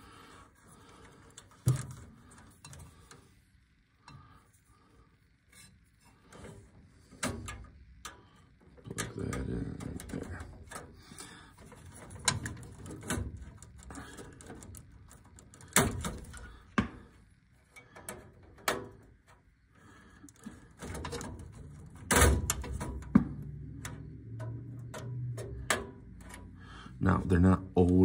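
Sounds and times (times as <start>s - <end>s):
wires rustling: 0.0s - 28.0s
wire connectors clicking and snapping: 0.7s - 3.3s, 5.5s - 19.6s, 20.2s - 27.1s.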